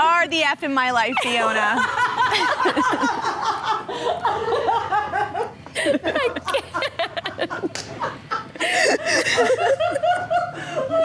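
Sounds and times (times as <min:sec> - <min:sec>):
woman laughing: 0:01.1 - 0:11.0.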